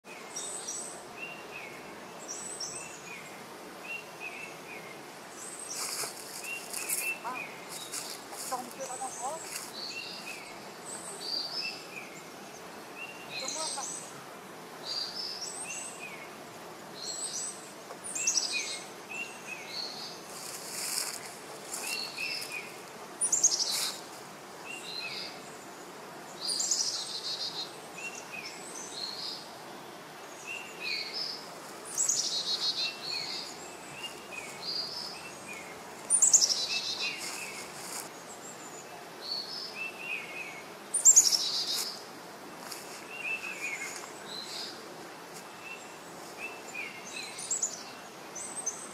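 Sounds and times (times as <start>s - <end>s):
birds chirping: 0.1s - 48.9s.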